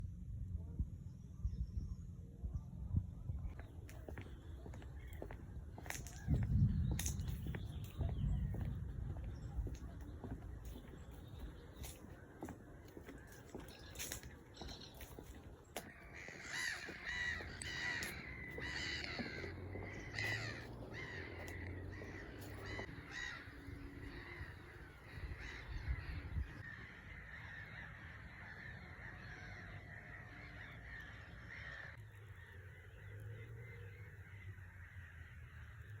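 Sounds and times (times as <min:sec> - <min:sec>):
birds cawing: 0:03.7 - 0:36.0.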